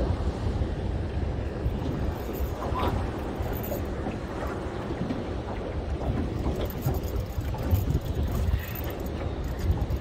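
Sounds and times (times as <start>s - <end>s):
sea washing around boat: 0.0s - 10.0s
wind buffeting microphone: 0.0s - 10.0s.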